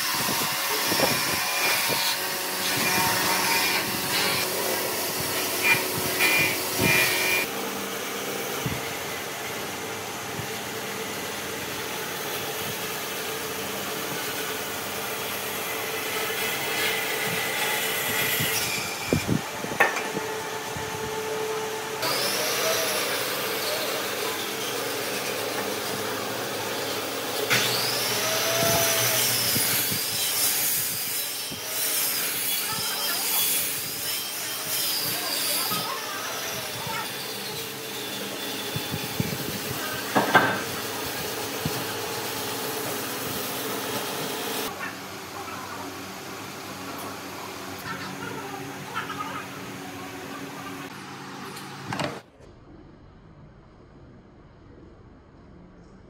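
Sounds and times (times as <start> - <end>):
workshop machine noise: 0.0 - 55.0.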